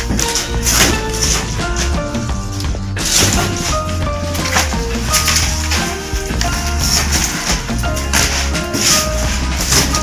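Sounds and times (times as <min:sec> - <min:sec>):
background music melody over bass: 0:00.0 - 0:10.0.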